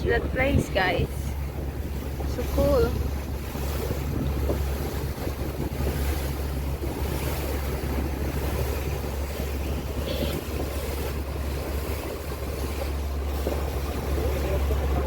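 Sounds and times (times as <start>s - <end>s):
boat motor running: 0.0s - 15.0s
water rushing against hull: 0.0s - 15.0s
wind buffeting microphone: 0.0s - 15.0s.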